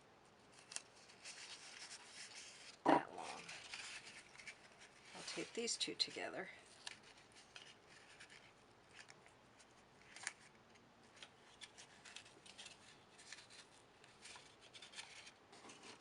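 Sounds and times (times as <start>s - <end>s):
cardboard and tape rustling: 0.4s - 16.0s.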